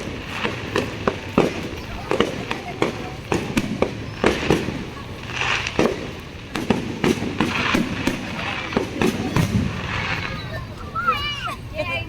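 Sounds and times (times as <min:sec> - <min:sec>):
fireworks bangs: 0:00.0 - 0:11.8.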